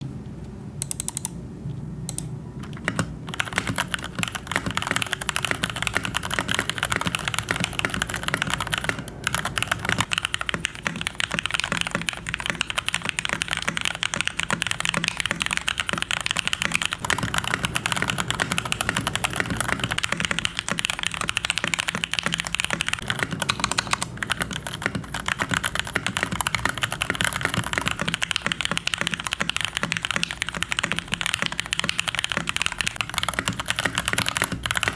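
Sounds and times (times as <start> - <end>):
mechanical keyboard typing: 0.8 - 1.4, 2.1 - 34.9.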